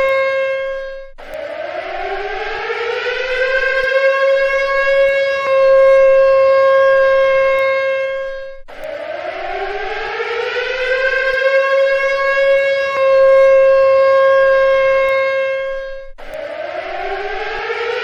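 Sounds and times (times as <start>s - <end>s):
civil defense siren: 0.0s - 18.0s.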